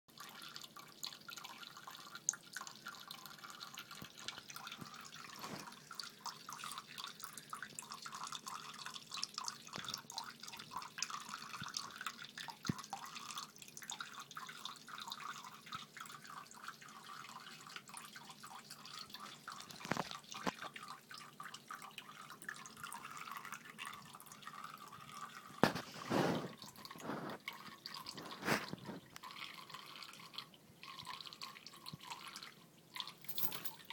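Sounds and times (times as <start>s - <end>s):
cat lapping water: 0.1s - 33.1s.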